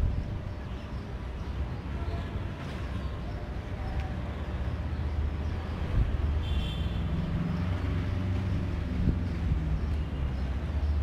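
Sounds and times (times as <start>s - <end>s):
urban background rumble: 0.0s - 11.0s.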